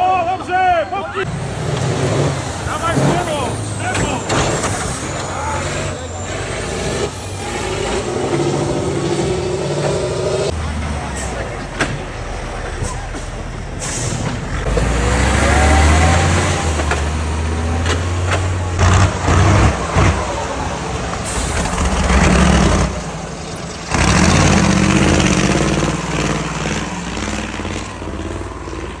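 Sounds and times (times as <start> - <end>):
truck engine droning: 0.0 - 29.0
loud sudden sounds: 1.2 - 28.4.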